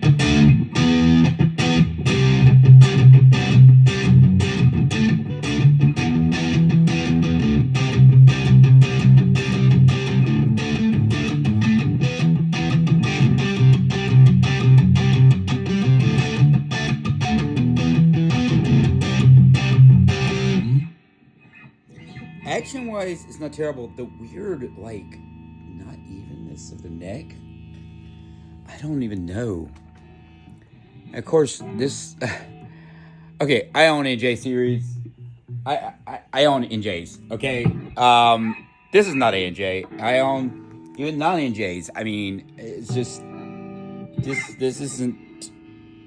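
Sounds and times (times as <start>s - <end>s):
electric guitar low riffs: 0.0s - 46.0s.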